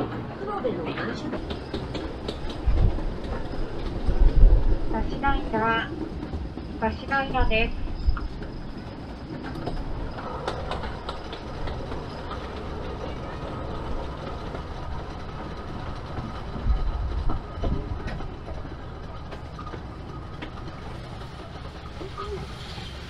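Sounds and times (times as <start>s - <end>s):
train wheels rattling on rails: 0.0s - 23.0s.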